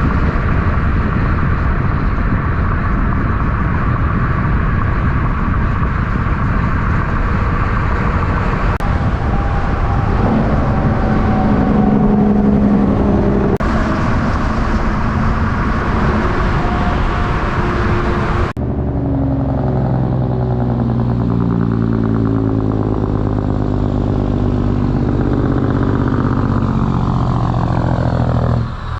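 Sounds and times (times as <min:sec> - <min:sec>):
trucks driving past: 0:00.0 - 0:28.9.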